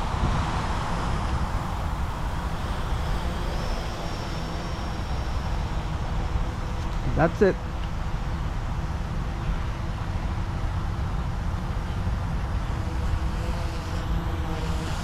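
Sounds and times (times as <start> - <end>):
wind buffeting microphone: 0.0 - 13.2
faint steady hum: 0.0 - 15.0.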